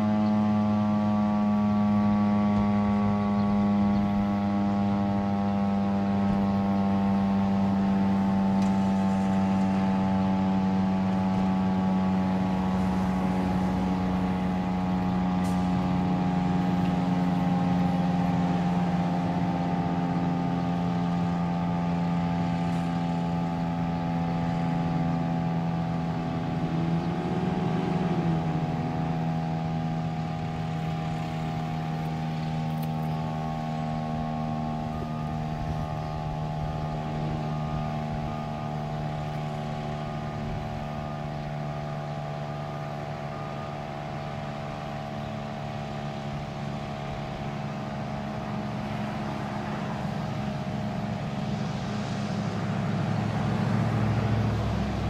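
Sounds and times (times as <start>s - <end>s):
siren winding down hum: 0.0s - 55.0s.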